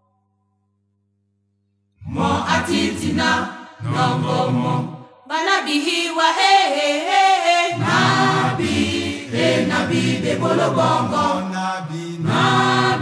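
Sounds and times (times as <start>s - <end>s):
choir singing: 2.0s - 13.0s.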